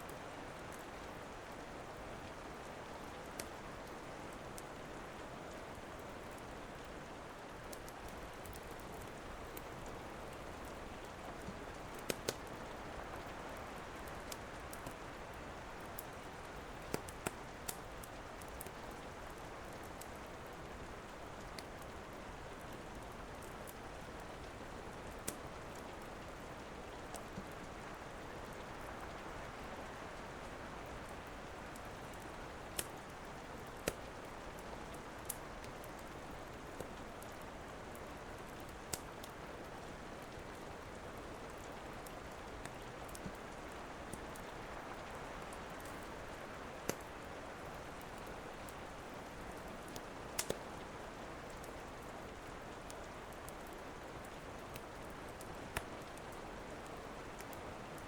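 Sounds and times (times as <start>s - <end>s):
steady rain falling: 0.0s - 58.0s
wood fire crackling and popping: 2.9s - 3.8s, 7.6s - 22.0s, 22.6s - 28.8s, 31.1s - 58.0s.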